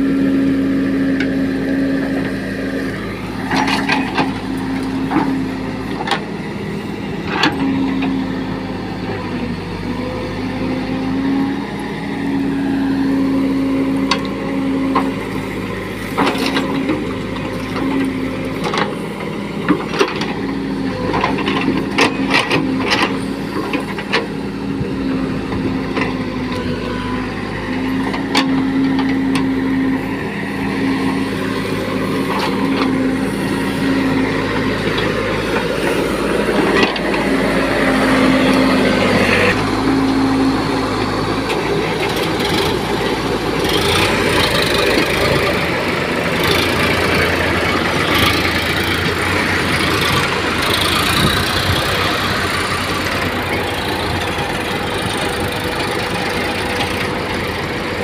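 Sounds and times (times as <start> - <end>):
backhoe digging soil: 0.0 - 58.0
diesel engines running: 0.0 - 58.0
tractor pulling away: 0.0 - 58.0.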